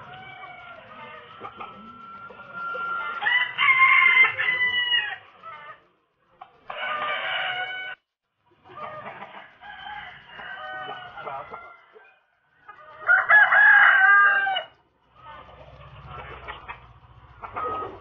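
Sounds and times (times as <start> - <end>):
roosters crowing: 0.0 - 5.9, 6.5 - 8.0, 8.6 - 18.0.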